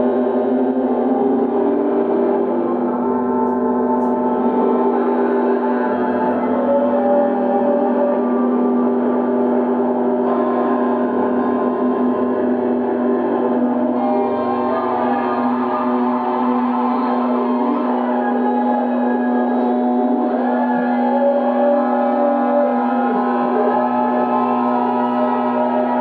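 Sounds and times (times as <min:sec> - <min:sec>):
ambient drone music with gong tones: 0:00.0 - 0:26.0.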